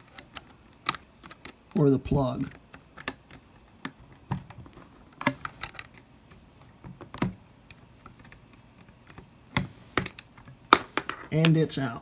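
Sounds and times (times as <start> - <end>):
screwdriver and plastic clicks: 0.0 - 10.6.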